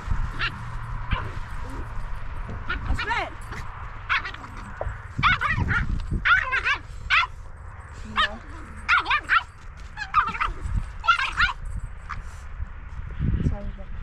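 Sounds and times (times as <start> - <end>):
dogs yipping and whining: 0.0 - 12.4
low rumble: 0.0 - 14.0.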